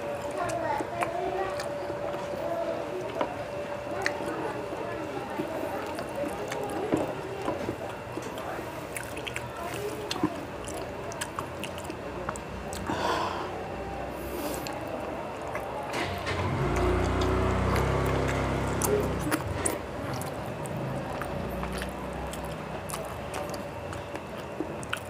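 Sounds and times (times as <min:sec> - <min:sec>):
wet chewing and mouth clicks: 0:00.0 - 0:02.4, 0:03.9 - 0:04.6, 0:05.2 - 0:13.0, 0:14.4 - 0:25.0.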